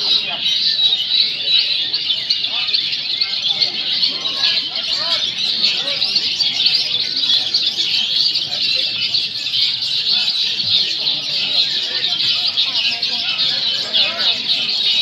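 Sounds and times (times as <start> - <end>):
birds chattering and whistling: 0.0 - 15.0.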